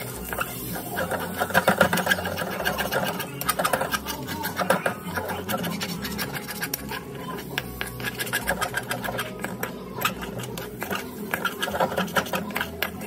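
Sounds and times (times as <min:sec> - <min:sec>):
metal spatula scraping a wok: 0:00.0 - 0:13.0.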